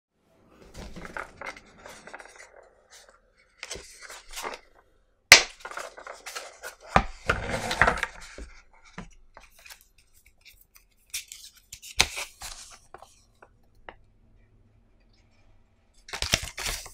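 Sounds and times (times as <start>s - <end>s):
paper rustling: 0.6s - 13.5s, 16.0s - 16.9s.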